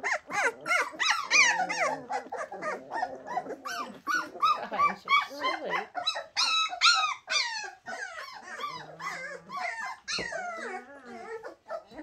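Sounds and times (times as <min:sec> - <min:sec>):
puppies whining and crying: 0:00.0 - 0:12.0.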